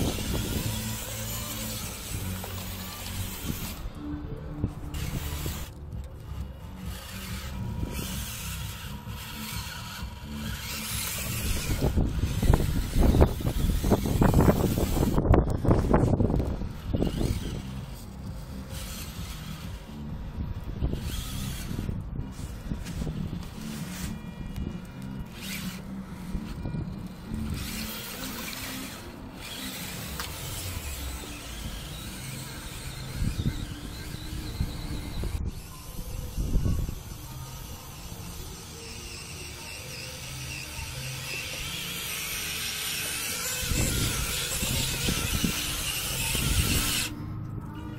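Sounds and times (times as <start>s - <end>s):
small electric motor whirring: 0.0s - 47.9s.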